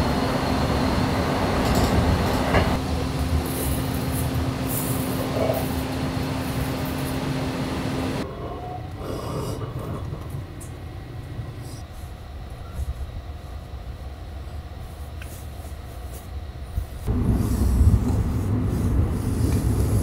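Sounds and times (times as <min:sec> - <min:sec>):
train rumbling on rails: 0:00.0 - 0:13.4, 0:17.0 - 0:20.0
low hum: 0:00.0 - 0:20.0.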